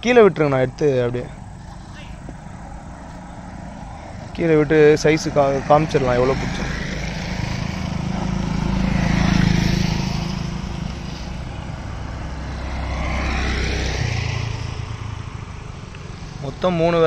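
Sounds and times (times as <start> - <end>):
steady low rumble: 0.0 - 17.0
passing vehicle engine: 0.6 - 17.0.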